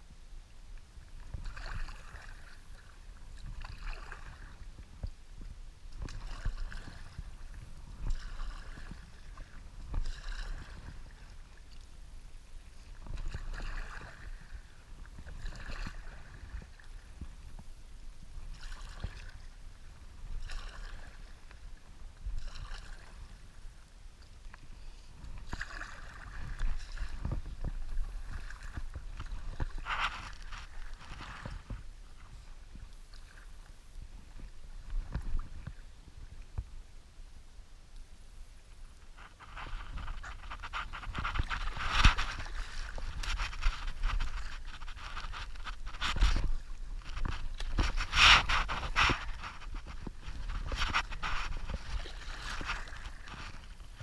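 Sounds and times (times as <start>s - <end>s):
wind rumble on microphone: 0.0s - 23.9s, 24.8s - 37.7s, 38.4s - 54.0s
paddle splashing in water: 0.8s - 36.7s, 38.6s - 54.0s.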